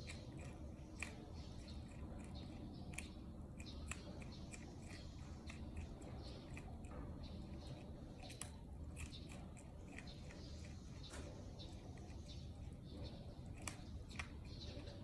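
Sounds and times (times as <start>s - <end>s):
faint low hum: 0.0s - 15.0s
prairie dog crunching carrot: 0.0s - 15.0s.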